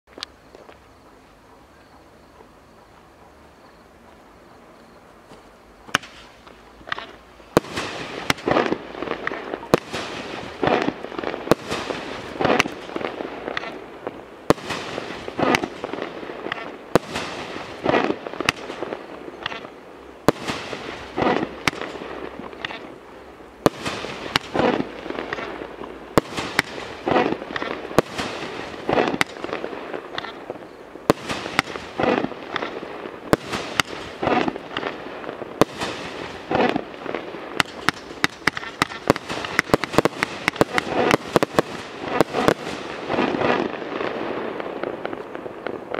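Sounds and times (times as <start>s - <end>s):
firework cake firing: 5.9s - 45.9s.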